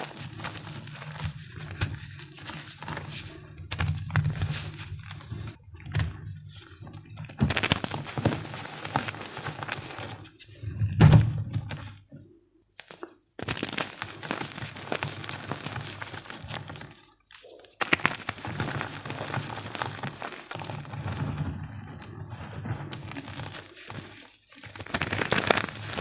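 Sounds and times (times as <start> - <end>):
chalk crushing and crackling: 0.0 - 10.7, 12.8 - 21.3, 22.3 - 26.0.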